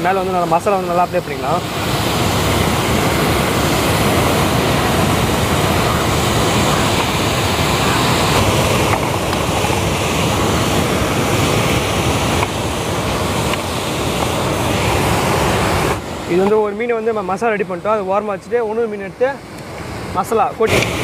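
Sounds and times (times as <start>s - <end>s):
water rushing over a weir: 0.0s - 21.0s.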